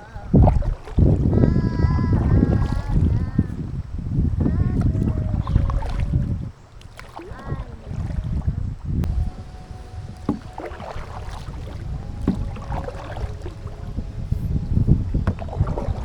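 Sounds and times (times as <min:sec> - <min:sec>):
paddle strokes in water: 0:00.0 - 0:16.0
wind rumbling on microphone: 0:00.0 - 0:16.0.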